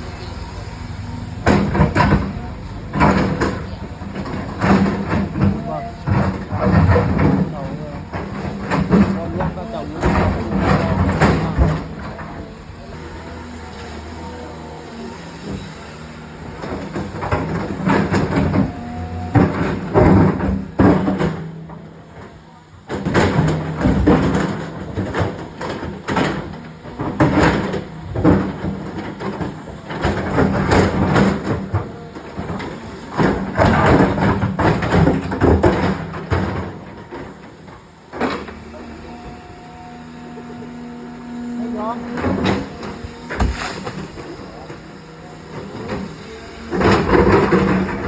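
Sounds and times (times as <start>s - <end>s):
excavator diesel engine under load: 0.0s - 48.0s.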